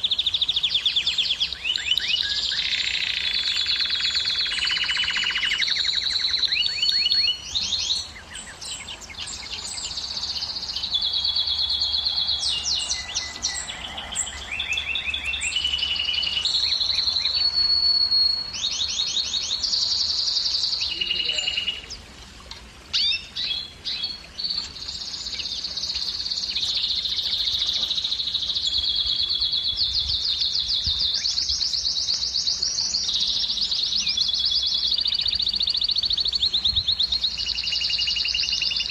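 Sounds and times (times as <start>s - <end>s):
canary singing trills: 0.0s - 22.2s, 22.9s - 38.9s.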